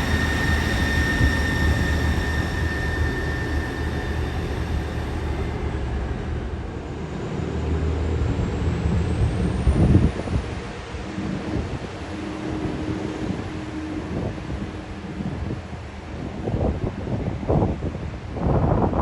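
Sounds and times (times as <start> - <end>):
diesel train rumble and whine: 0.0 - 19.0
wind gust on microphone: 0.0 - 19.0.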